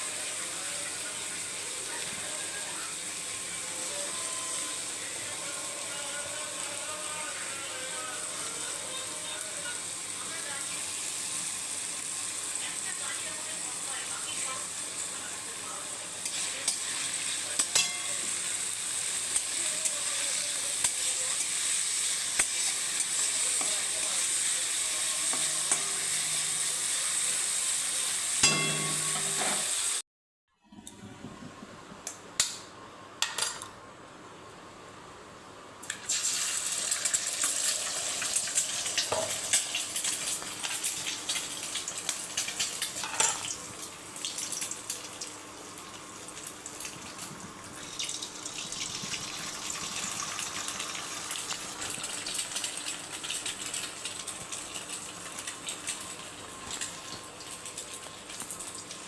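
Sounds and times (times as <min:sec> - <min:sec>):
food sizzling in a hot pan: 0:00.0 - 0:30.0, 0:35.9 - 0:59.0.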